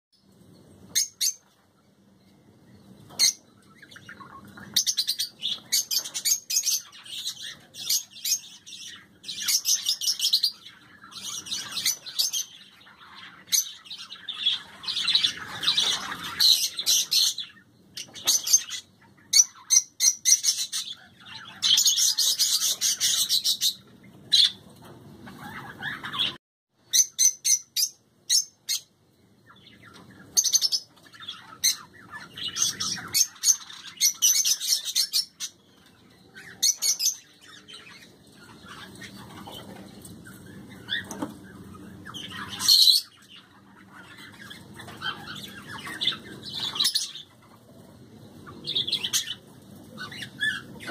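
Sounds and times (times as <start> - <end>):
pet birds chirping and squawking: 0.2 - 50.9.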